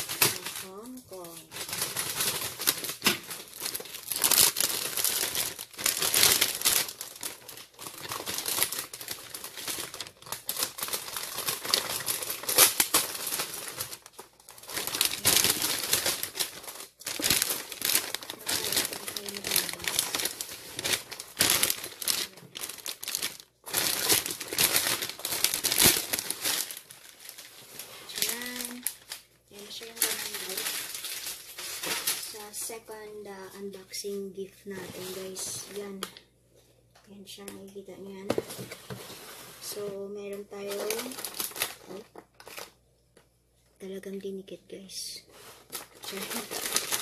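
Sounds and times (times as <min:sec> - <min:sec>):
cellophane wrap crinkling: 0:00.0 - 0:36.2, 0:38.3 - 0:42.8, 0:45.2 - 0:47.0.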